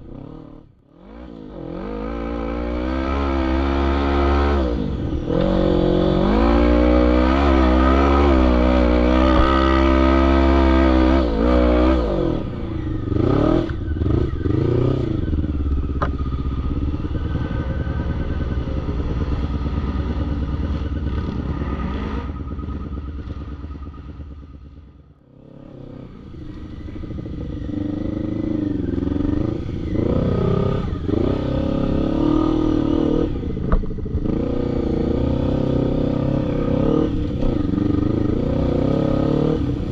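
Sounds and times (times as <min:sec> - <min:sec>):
quad bike engine revving: 0:00.0 - 0:24.2, 0:25.4 - 0:39.9.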